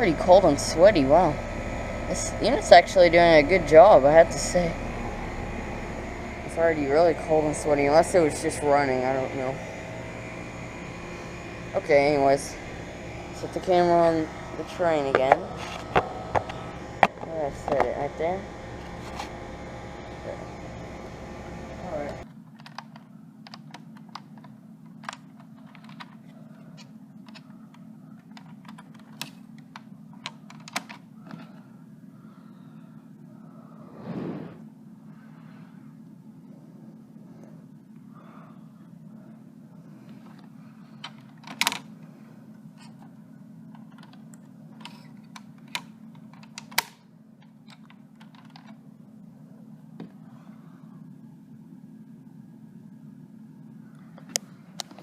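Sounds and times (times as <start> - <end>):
air conditioner humming: 0.0 - 55.0.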